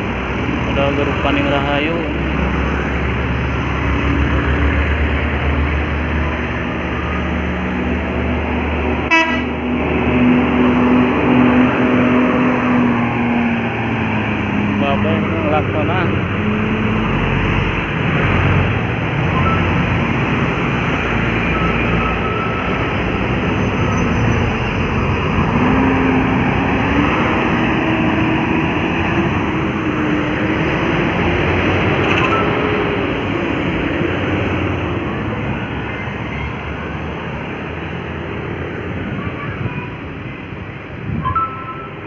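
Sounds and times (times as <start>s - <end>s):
heavy diesel engines under load: 0.0s - 42.0s
road noise rush: 0.0s - 42.0s.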